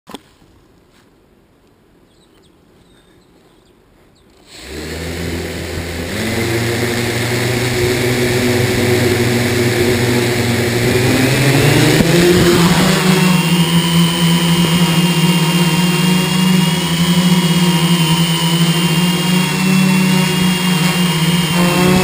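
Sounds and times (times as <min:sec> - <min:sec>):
drone propellers whining: 0:04.4 - 0:22.0.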